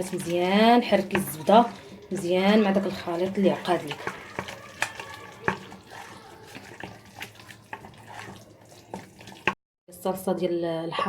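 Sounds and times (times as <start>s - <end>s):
whisk clicking against pan: 0.0s - 9.6s
whisk stirring wet curd: 0.0s - 9.6s.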